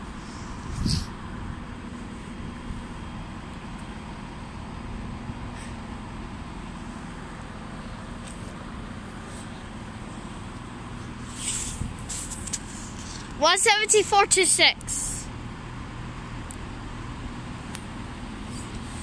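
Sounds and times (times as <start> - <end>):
diesel train approaching: 0.0 - 19.0
low rumble and hum of trains: 0.0 - 19.0.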